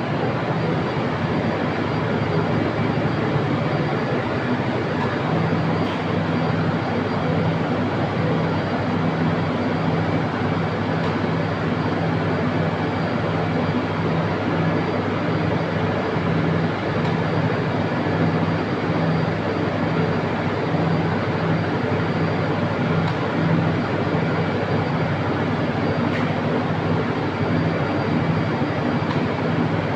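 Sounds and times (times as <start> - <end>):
industrial machinery running: 0.0 - 29.9.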